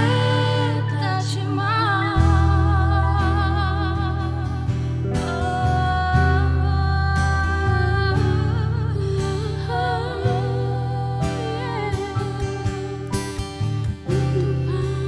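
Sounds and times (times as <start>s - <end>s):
pop ballad instrumental: 0.0s - 15.0s.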